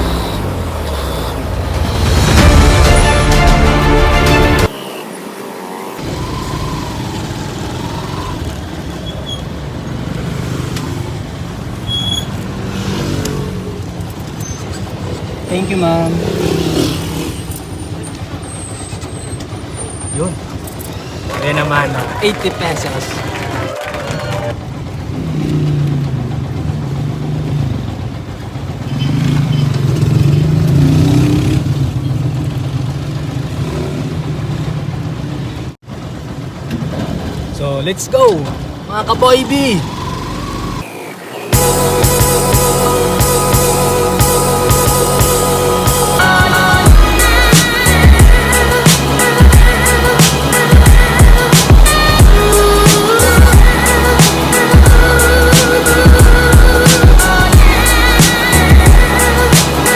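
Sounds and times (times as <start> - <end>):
motorcycle engine running: 0.0 - 2.8, 6.0 - 37.6, 41.5 - 59.9.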